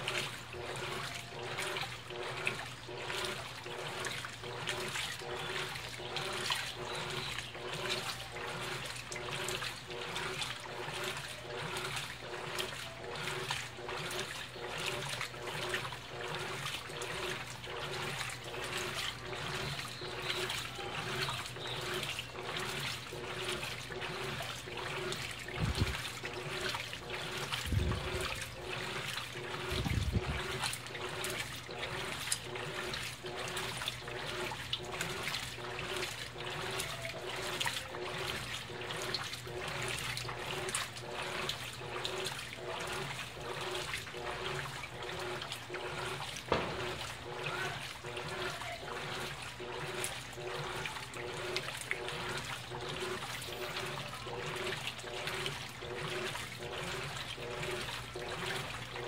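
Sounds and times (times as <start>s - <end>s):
washing machine motor hum: 0.0s - 59.0s
water and denim sloshing: 0.0s - 59.0s.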